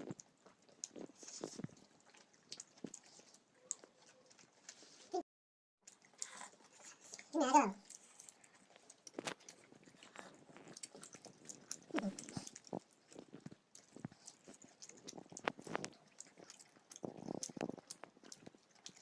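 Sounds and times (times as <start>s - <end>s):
chewing with wet mouth smacks: 0.0s - 5.1s, 5.8s - 19.0s.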